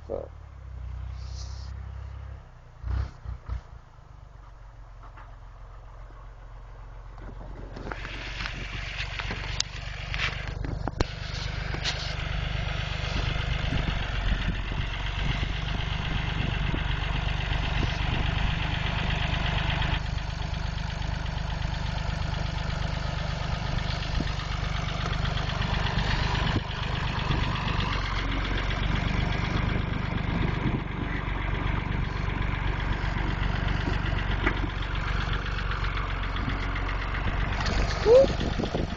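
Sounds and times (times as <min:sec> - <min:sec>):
tractor engine rumbling: 0:00.0 - 0:38.9.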